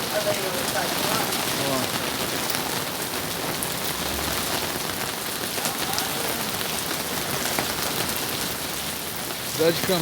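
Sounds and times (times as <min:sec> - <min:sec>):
hailstones ticking: 0:00.0 - 0:10.0
heavy rain hissing: 0:00.0 - 0:10.0.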